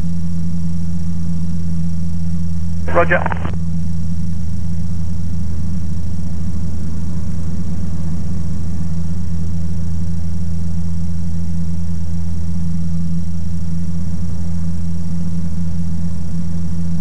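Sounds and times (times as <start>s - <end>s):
light aircraft engine droning: 0.0s - 17.0s.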